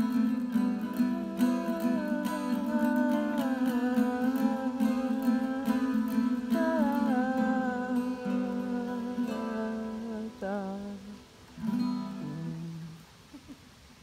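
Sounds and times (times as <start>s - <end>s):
acoustic guitar music: 0.0s - 13.6s.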